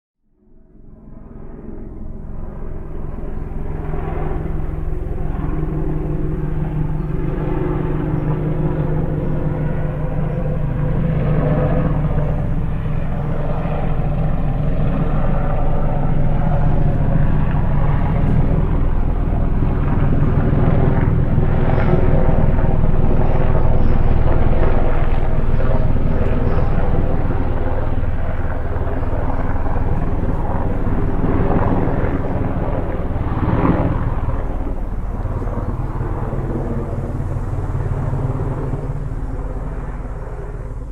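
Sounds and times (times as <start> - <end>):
distant helicopter: 0.2 - 40.9.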